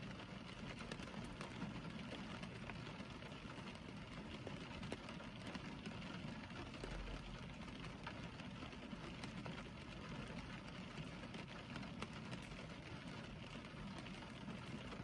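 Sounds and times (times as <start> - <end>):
rain pattering on a car: 0.0 - 15.0
raindrops ticking on glass: 0.0 - 15.0.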